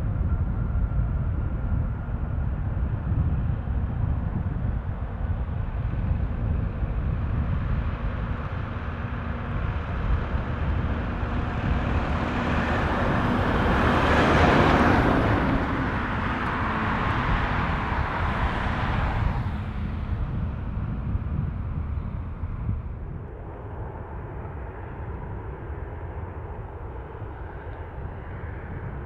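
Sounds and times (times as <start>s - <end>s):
deep rumble: 0.0s - 29.0s
jet plane engines passing: 0.0s - 29.0s.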